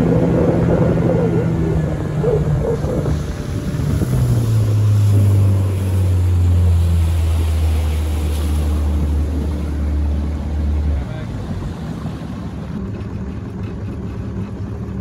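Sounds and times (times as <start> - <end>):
wind buffeting microphone: 0.0 - 12.9
boat motor humming: 0.0 - 15.0.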